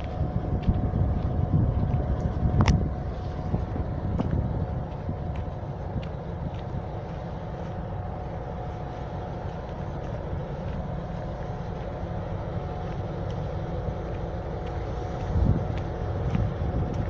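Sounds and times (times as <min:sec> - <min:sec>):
diesel locomotive engine rumbling: 0:00.0 - 0:17.0
locomotive whine: 0:00.0 - 0:17.0.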